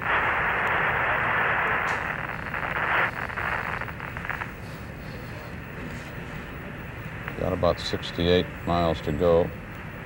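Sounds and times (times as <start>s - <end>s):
faint crackling hiss: 0.0s - 10.0s
radio static hiss: 0.0s - 10.0s.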